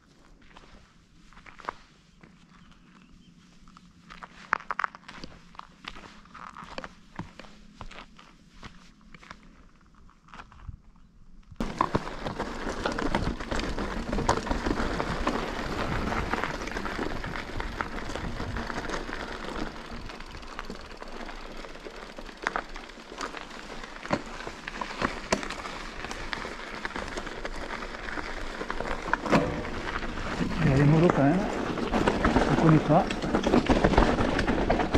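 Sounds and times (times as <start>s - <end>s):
bike rolling over rough ground: 0.0s - 34.9s.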